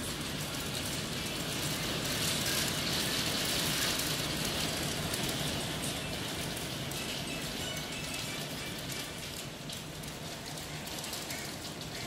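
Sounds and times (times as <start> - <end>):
hail and rain on concrete: 0.0 - 12.0.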